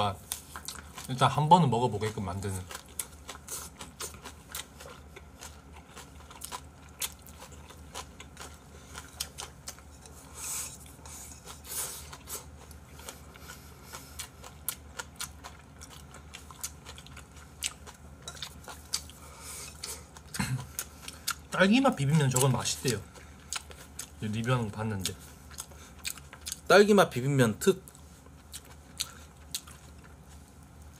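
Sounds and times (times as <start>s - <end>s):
chewing: 0.2s - 26.7s, 27.8s - 30.9s.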